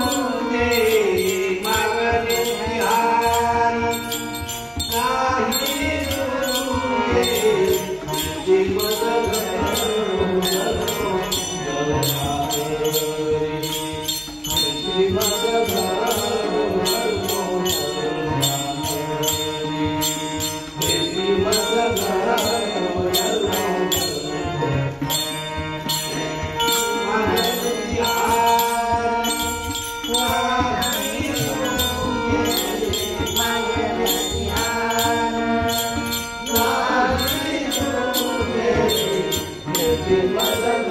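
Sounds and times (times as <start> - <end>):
elderly man singing: 0.0 - 40.9
jingling hand percussion: 0.0 - 40.9.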